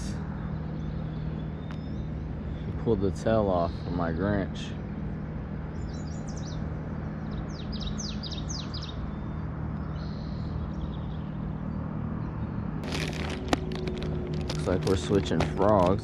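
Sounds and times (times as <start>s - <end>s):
songbird chirping: 0.0s - 16.0s
steady low hum: 0.0s - 16.0s.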